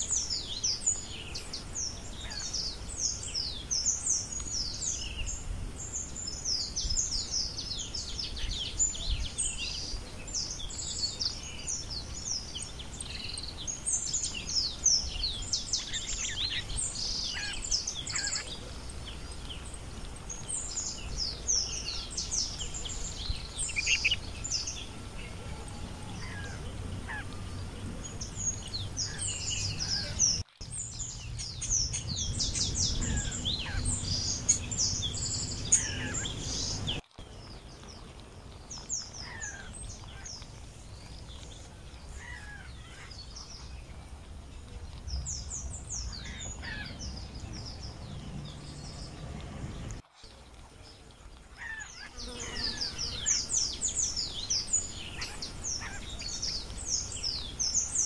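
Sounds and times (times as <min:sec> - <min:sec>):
chorus of birds chirping: 0:00.0 - 0:58.0.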